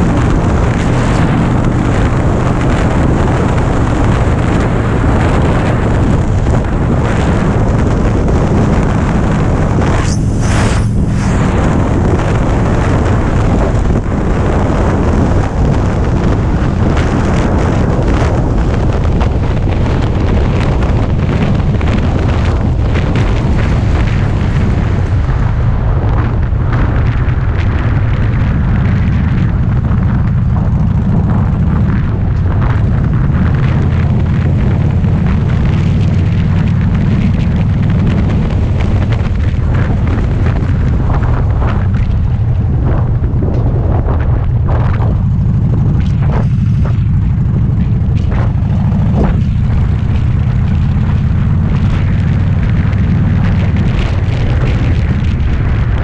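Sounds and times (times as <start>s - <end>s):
motorcycle engine exhaust rumble: 0.0s - 56.0s.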